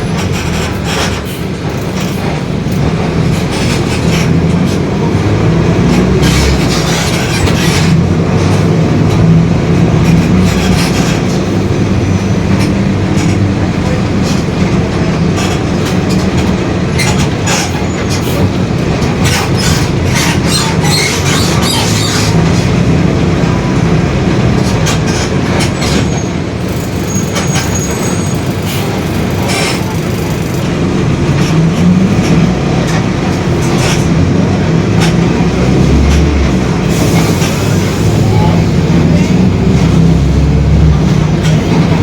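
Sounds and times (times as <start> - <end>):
bus engine running: 0.0 - 42.0
rattles and clicks of bus body: 0.0 - 42.0.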